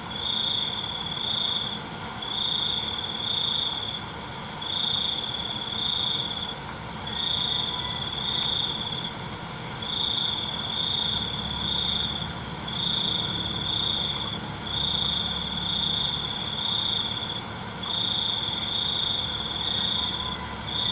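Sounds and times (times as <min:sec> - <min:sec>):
chorus of insects: 0:00.0 - 0:20.9
cricket trilling: 0:00.0 - 0:20.9.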